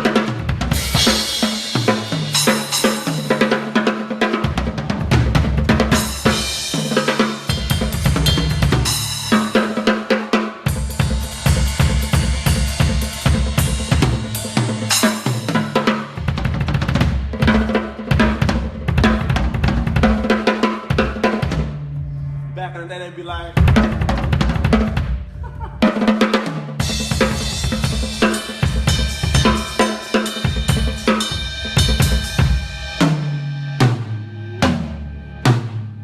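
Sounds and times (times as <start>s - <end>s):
drum kit fast groove: 0.0s - 22.0s, 23.2s - 35.9s.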